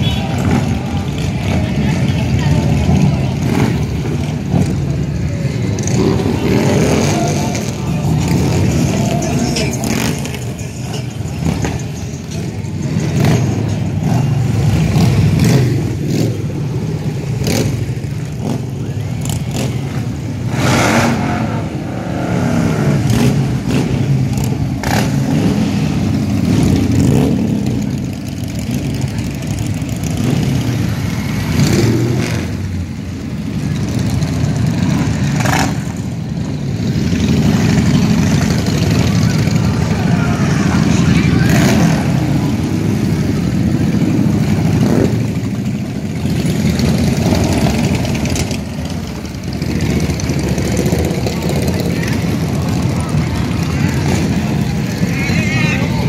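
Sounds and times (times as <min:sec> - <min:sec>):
motorcycles riding past: 0:00.0 - 0:56.0.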